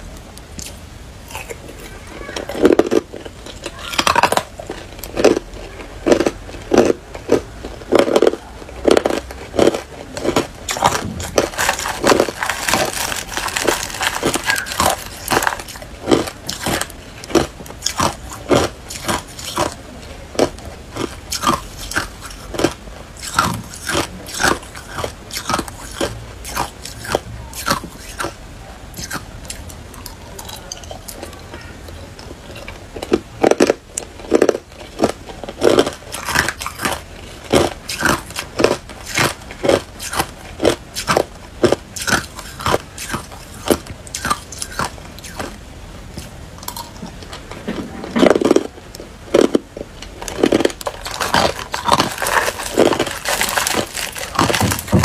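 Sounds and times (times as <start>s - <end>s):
ice cubes crunched by teeth: 2.4s - 19.8s, 20.4s - 28.4s, 32.5s - 45.6s, 49.3s - 55.0s.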